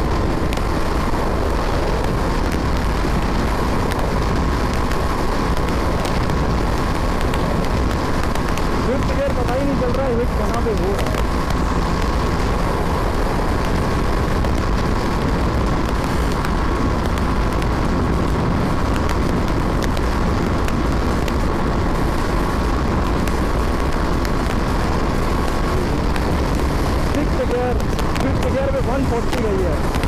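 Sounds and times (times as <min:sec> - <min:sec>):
motorcycle engine high-revving: 0:00.0 - 0:30.0
wind rush on microphone: 0:00.0 - 0:30.0.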